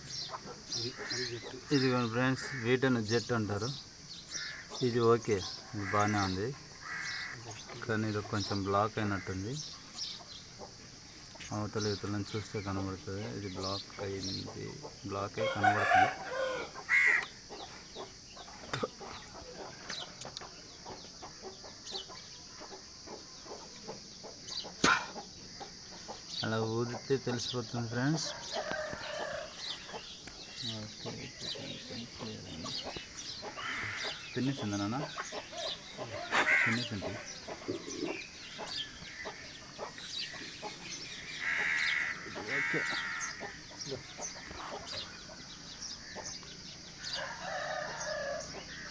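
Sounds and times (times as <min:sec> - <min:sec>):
chickens clucking: 0:00.0 - 0:27.3, 0:28.0 - 0:48.9.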